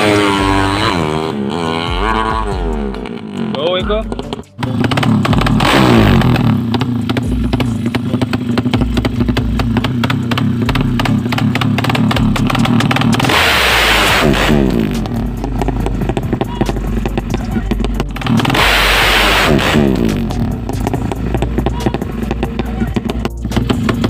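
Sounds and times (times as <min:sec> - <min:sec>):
racing motorcycle engine revving: 0:00.0 - 0:24.0.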